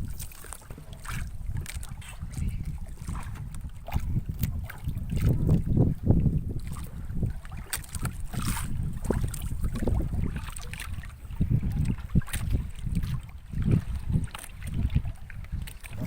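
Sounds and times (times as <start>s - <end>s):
water splashes: 0.0s - 16.0s
wind buffeting microphone: 0.0s - 16.0s.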